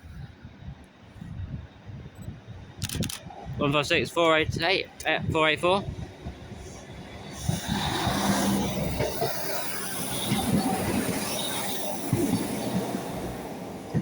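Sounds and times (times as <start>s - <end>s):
diesel train engine drone: 0.0s - 14.0s
wheel-on-rail rumble: 0.0s - 14.0s.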